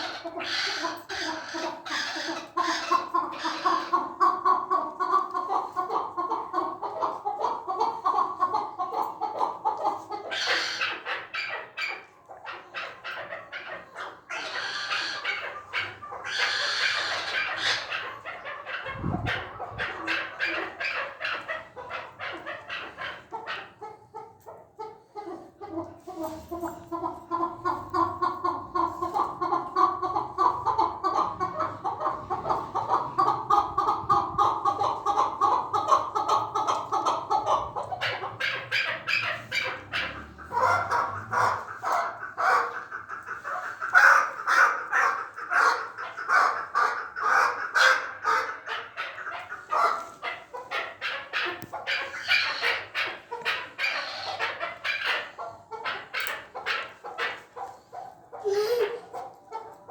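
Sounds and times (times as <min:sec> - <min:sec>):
partridge clucking calls: 0:00.0 - 0:59.9.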